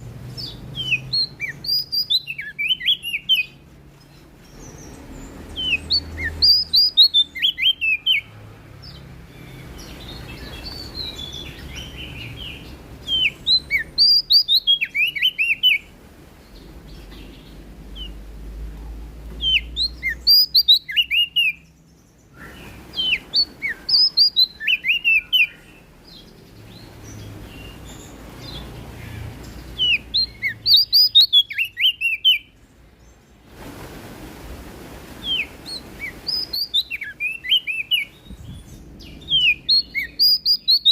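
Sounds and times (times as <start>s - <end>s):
faint background noise: 0.0s - 40.9s
warbler singing high rapid notes: 0.3s - 15.9s, 19.4s - 21.9s, 22.5s - 28.8s, 29.4s - 32.6s, 35.2s - 40.9s.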